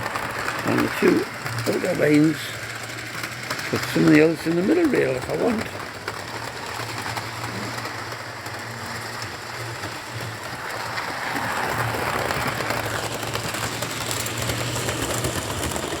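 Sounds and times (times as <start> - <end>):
electric motor hum: 0.0 - 16.0
train wheels clicking: 0.0 - 16.0.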